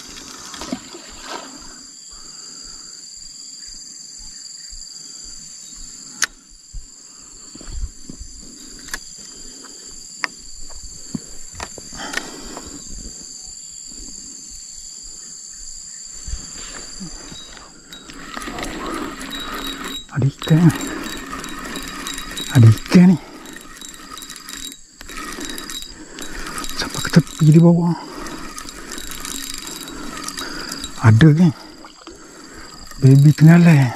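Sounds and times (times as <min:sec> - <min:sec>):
insect chorus drone: 0:00.0 - 0:33.9.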